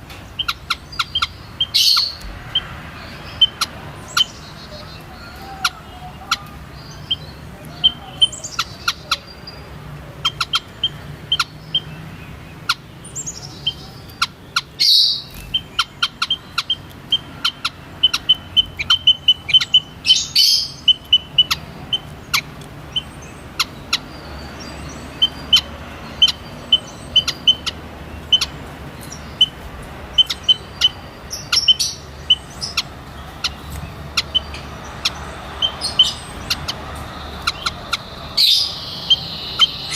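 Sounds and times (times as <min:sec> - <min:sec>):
small birds chip calls: 0:00.0 - 0:39.9.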